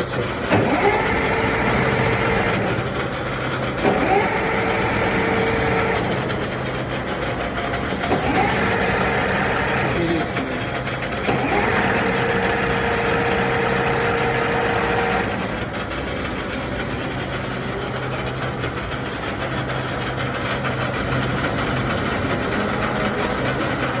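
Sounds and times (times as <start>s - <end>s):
lathe humming: 0.0s - 24.0s.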